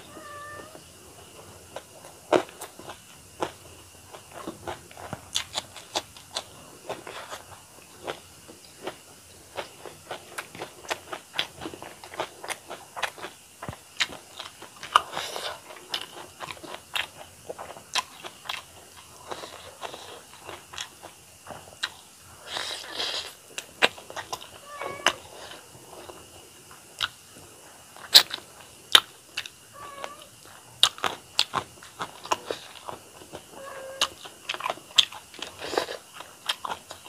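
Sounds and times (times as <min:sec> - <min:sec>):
person chewing food: 0:01.2 - 0:27.2, 0:28.0 - 0:37.0.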